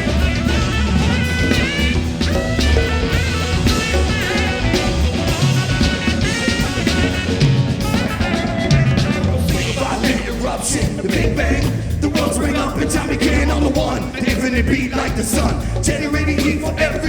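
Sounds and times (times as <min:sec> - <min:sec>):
bass: 0:00.0 - 0:17.0
drum kit: 0:00.0 - 0:17.0.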